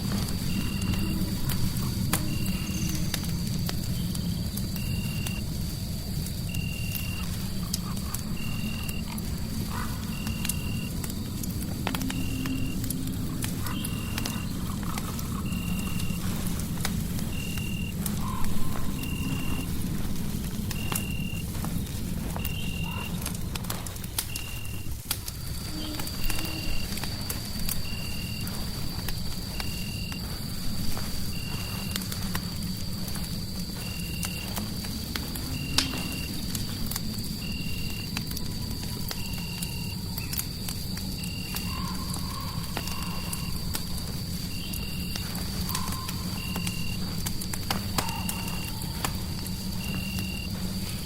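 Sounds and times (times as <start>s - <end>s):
fireplace crackling: 0.0s - 51.0s.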